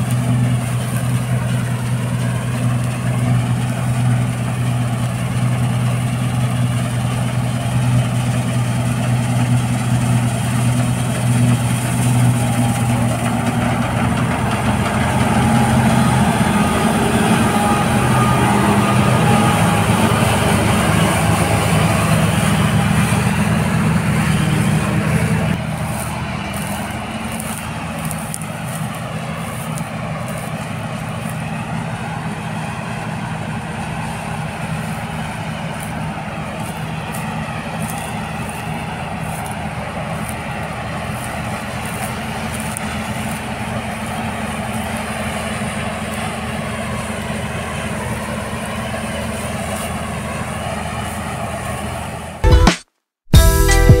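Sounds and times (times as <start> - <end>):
combine harvester diesel drone: 0.0 - 52.5.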